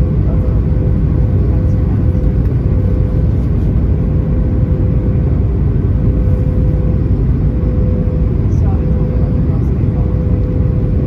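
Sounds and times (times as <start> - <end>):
jet engine and airflow rumble: 0.0 - 11.0
mid-pitched hum: 0.0 - 11.0.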